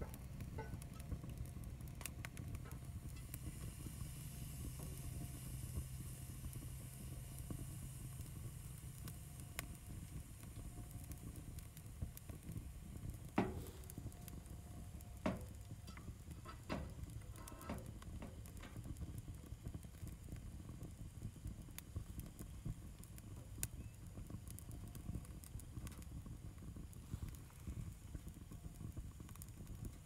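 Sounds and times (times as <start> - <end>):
fire crackling and popping: 0.0 - 30.0
stove draft rumble: 0.0 - 30.0.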